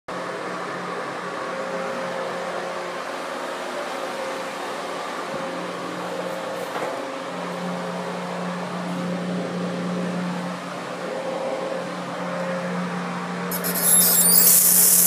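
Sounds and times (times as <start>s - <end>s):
mechanical hum: 0.1s - 15.0s.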